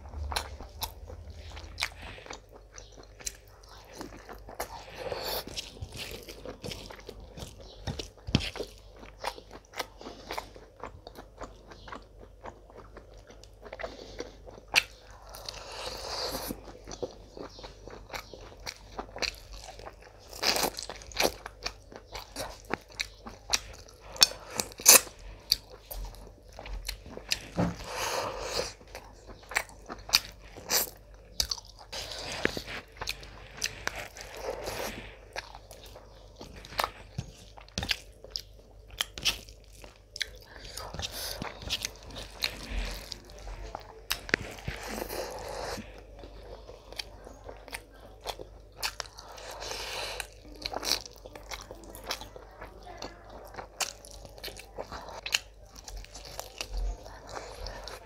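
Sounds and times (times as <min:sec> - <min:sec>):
person chewing: 0:00.0 - 0:58.0.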